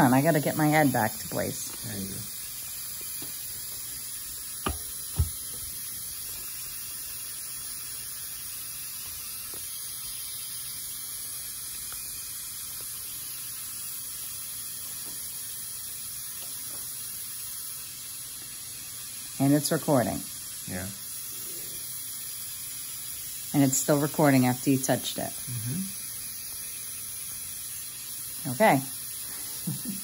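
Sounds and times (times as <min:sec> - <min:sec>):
steady airy hiss: 0:00.0 - 0:30.0.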